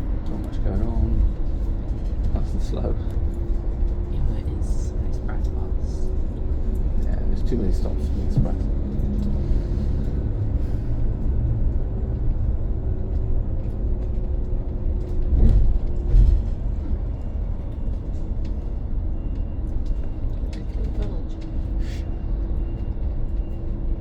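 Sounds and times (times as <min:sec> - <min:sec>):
bus road rumble: 0:00.0 - 0:24.0.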